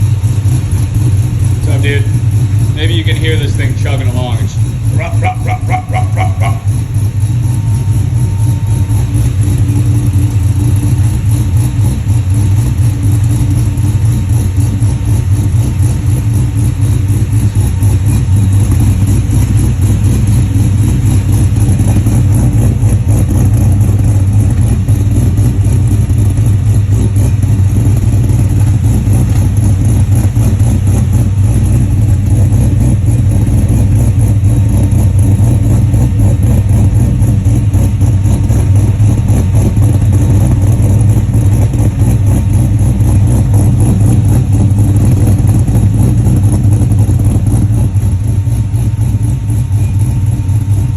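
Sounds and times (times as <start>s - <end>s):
car engine idling roughly: 0.0s - 50.9s.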